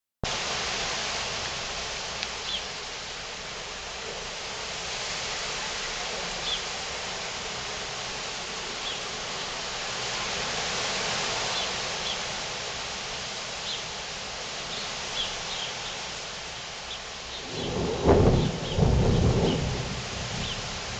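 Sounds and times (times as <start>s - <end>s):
rain hissing: 0.2s - 20.9s.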